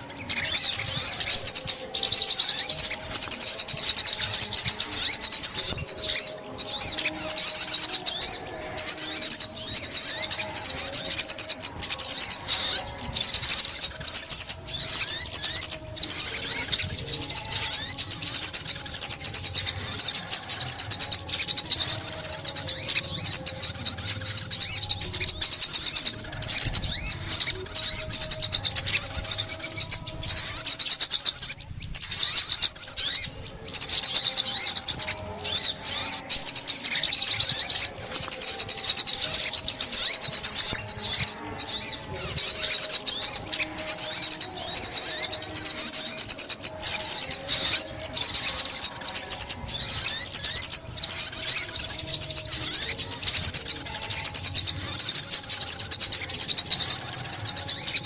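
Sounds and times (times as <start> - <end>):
bird chirps and trills: 0.0 - 58.0.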